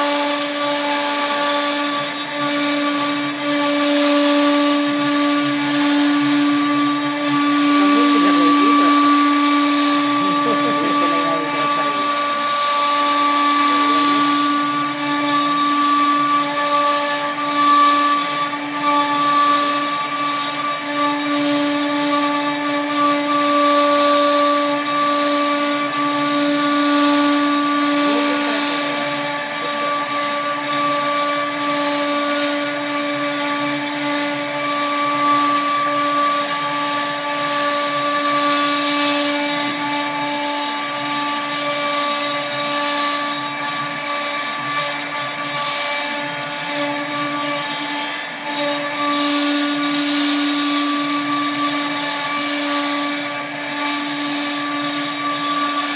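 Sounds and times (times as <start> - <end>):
router bit cutting wood: 0.0 - 55.9
router spindle whine: 0.0 - 55.9.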